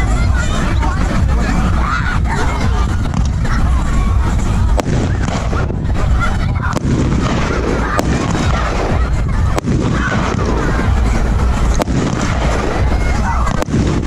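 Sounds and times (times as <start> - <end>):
crowd: 0.0 - 14.0
music: 0.0 - 14.0
firework bangs: 2.6 - 14.0.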